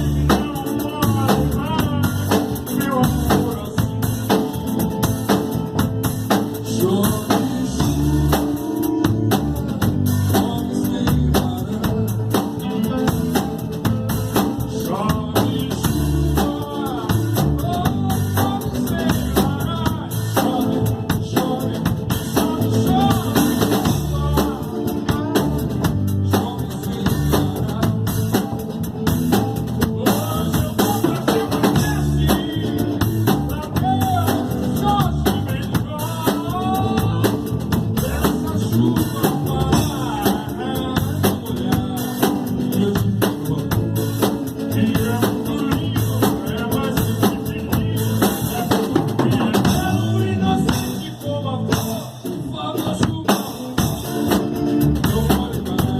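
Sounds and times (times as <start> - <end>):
bass line: 0.0 - 55.9
drum kit beat: 0.0 - 55.9
live band instrumental: 0.0 - 55.9.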